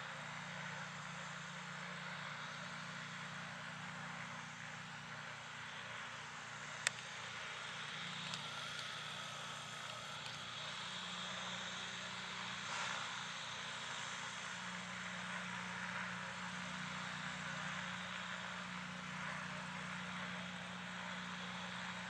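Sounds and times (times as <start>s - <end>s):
aircraft engine noise: 0.0s - 22.0s.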